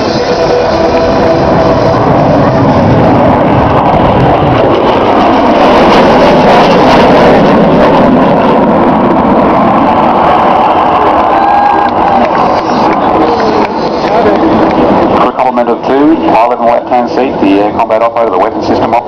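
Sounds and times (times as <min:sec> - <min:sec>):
loud jet noise: 0:00.0 - 0:19.0.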